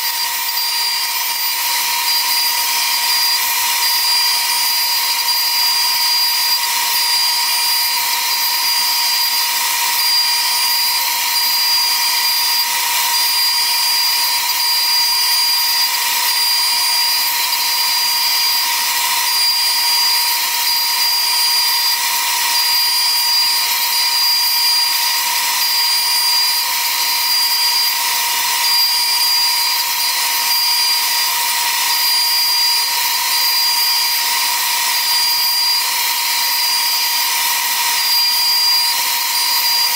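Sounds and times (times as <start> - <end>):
router spindle high whine: 0.0 - 39.9.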